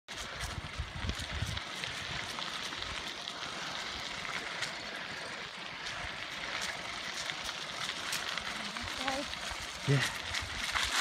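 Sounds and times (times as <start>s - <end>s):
bicycle tyres rolling on pavement: 0.1s - 11.0s.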